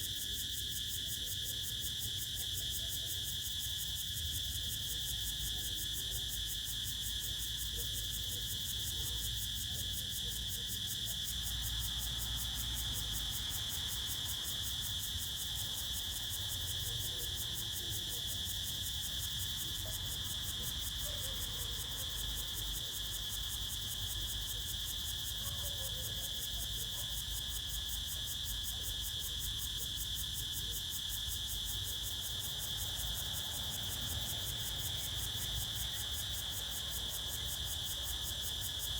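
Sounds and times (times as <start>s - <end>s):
crickets trilling: 0.1s - 38.9s.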